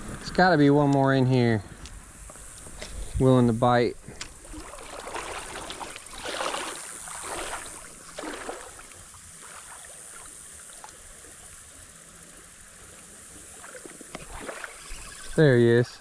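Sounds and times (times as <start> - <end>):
creek water running: 0.0 - 16.0
water splashing: 2.4 - 15.8.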